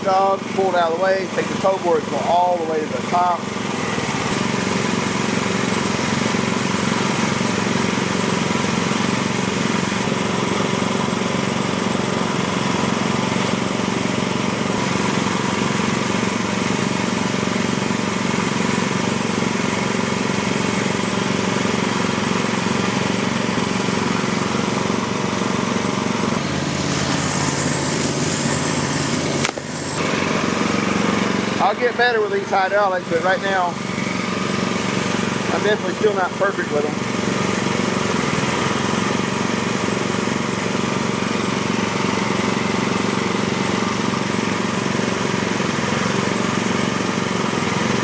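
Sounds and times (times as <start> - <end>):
sawmill engine running: 0.0 - 48.0.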